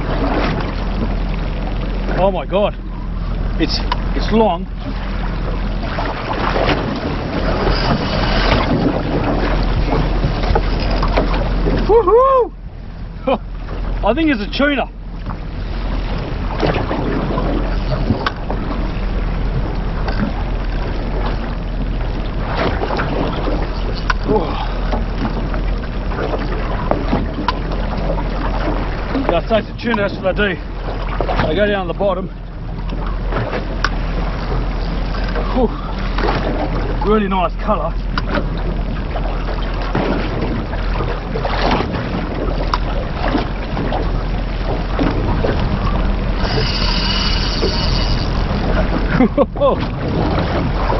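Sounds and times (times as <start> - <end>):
low steady hum: 0.0 - 50.9
sea sloshing against boat: 0.0 - 50.9
wind on microphone: 0.0 - 50.9.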